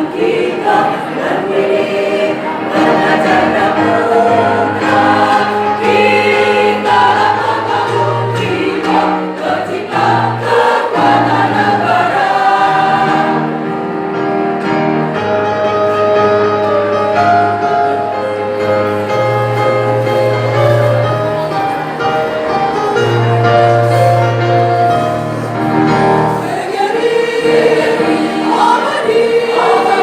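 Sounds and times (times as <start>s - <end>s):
choir singing in harmony: 0.0s - 30.0s.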